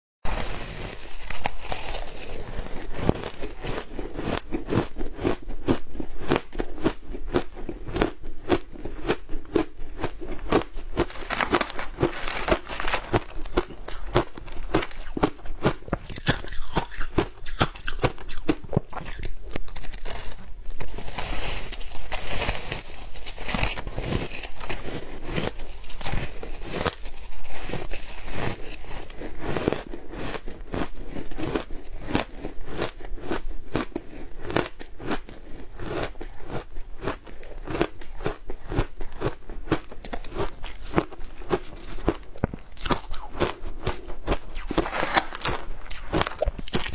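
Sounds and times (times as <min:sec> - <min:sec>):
crunching shaved ice: 0:00.3 - 0:46.9.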